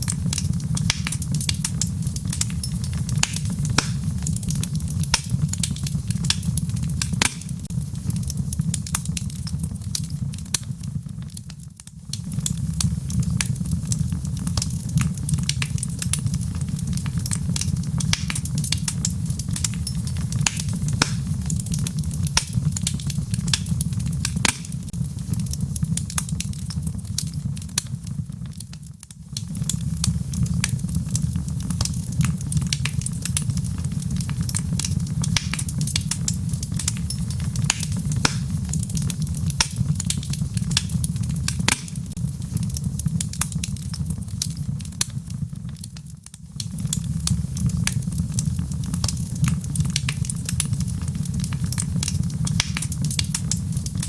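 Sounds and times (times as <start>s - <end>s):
fire rumbling: 0.0s - 54.0s
logs crackling and popping: 0.0s - 54.0s.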